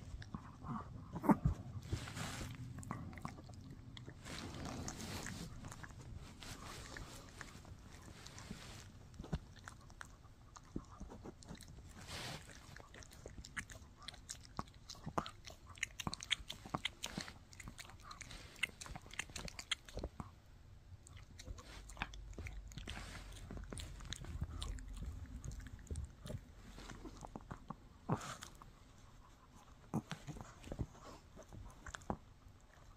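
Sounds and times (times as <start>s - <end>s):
dog chewing: 0.0s - 20.4s, 21.0s - 32.9s.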